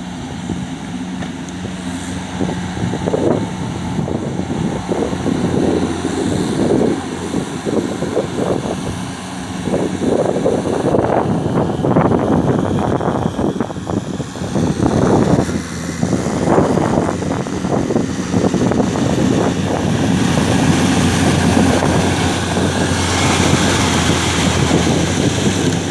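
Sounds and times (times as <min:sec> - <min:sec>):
tractor engine droning: 0:00.0 - 0:25.9
wind hiss on microphone: 0:00.0 - 0:25.9.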